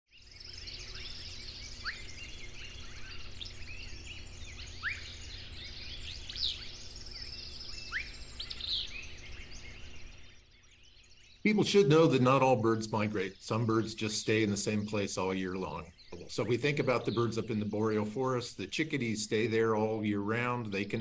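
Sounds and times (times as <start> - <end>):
faint low hum: 0.1 - 21.0
songbirds chirping and trilling: 0.1 - 21.0.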